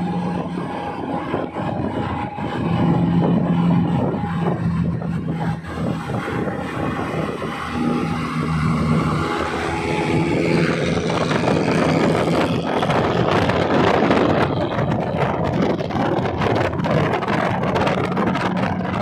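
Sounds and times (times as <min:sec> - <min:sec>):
car engine and exhaust: 0:00.0 - 0:19.0
road and wind noise: 0:00.0 - 0:19.0.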